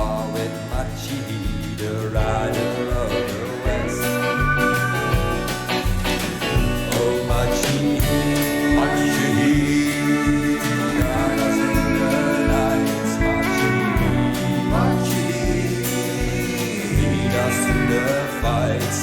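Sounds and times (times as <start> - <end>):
sliding guitar lines: 0.0 - 19.0
steady drum beat: 0.0 - 19.0.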